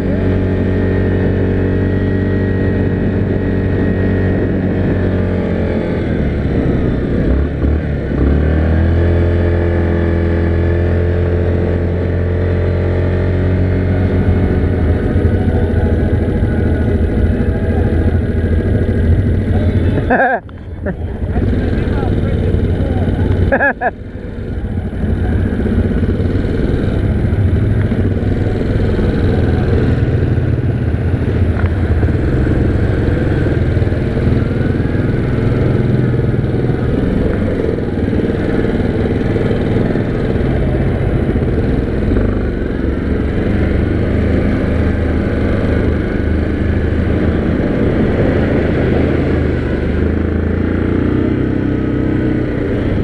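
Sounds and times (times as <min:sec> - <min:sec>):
atv engine running: 0:00.0 - 0:53.0.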